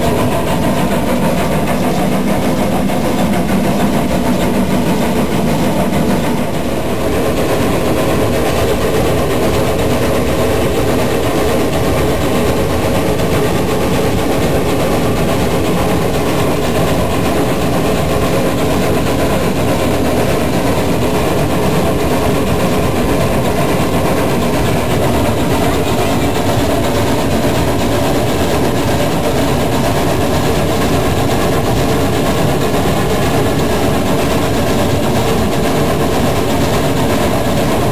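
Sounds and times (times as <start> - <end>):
steam train rumbling: 0.0 - 37.9.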